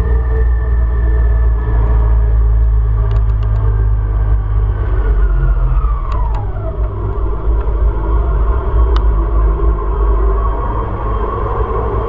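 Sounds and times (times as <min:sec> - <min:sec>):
motorcycle engine: 0:00.0 - 0:12.0
wind rumble on microphone: 0:00.0 - 0:12.0.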